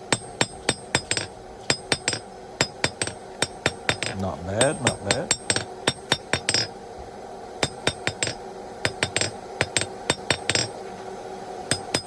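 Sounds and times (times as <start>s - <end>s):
steady hum: 0.0s - 12.0s
hammer striking steel on anvil: 0.1s - 6.8s, 7.6s - 10.8s, 11.7s - 12.0s.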